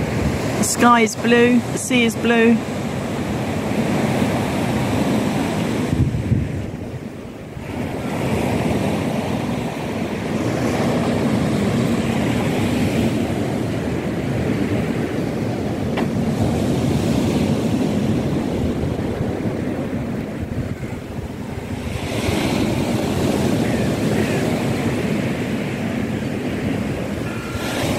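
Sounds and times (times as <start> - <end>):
surf breaking on beach: 0.0 - 27.9
wind buffeting microphone: 0.0 - 27.9.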